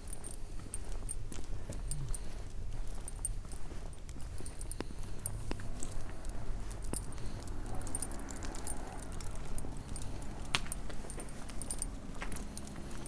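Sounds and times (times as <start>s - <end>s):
footsteps on pavement: 0.0s - 13.0s
metallic clinks and jingles: 0.0s - 13.0s
steady low rumble: 0.0s - 13.0s.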